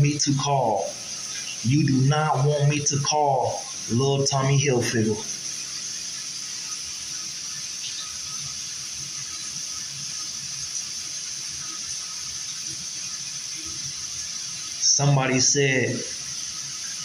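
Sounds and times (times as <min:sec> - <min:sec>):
high-pitched background hiss: 0:00.0 - 0:17.0.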